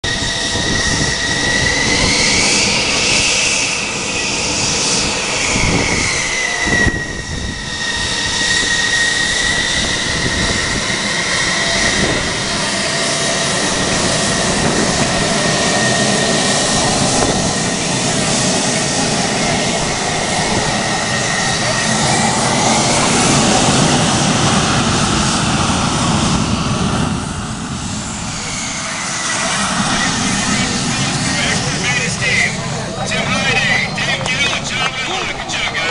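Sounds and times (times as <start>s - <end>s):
high engine whine: 0.0s - 35.9s
jet engine roar: 0.0s - 35.9s.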